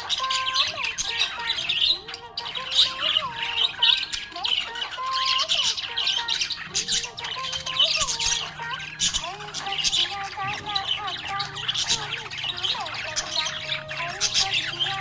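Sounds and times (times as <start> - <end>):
budgerigar chattering and chirping: 0.0 - 15.0.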